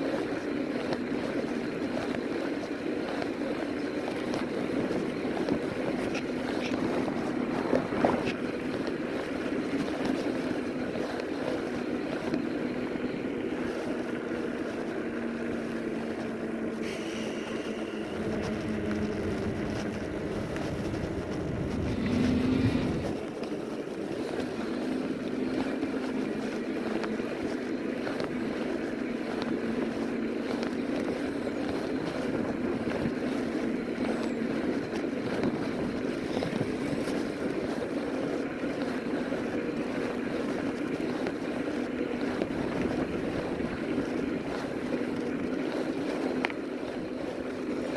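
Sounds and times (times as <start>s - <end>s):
electric bike motor hum: 0.0s - 47.9s
tyres on road: 0.0s - 47.9s
wind on microphone: 0.0s - 47.9s.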